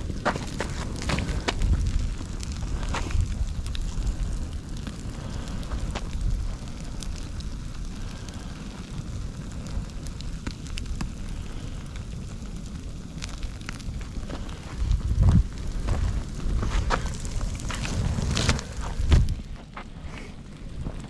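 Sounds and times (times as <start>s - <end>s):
low rumble: 0.0s - 9.6s, 13.2s - 21.0s
fire crackling and popping: 0.0s - 21.0s.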